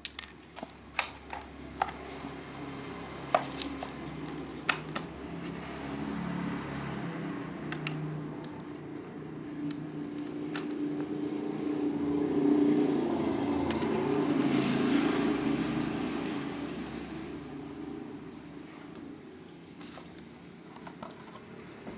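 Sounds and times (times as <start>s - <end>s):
passing vehicle engine: 1.5s - 20.6s.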